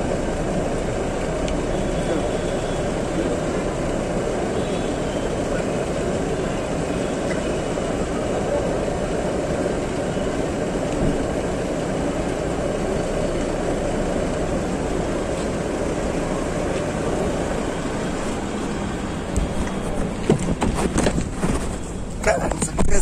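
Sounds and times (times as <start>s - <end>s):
motor vehicles close by: 0.0s - 23.0s.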